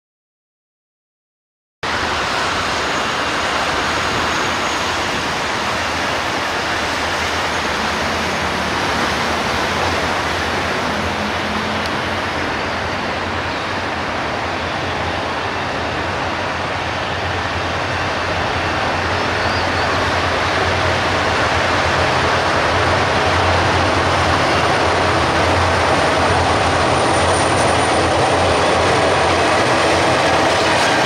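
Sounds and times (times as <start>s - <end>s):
locomotive engine hum: 1.9s - 31.0s
train wheels on rails: 1.9s - 31.0s.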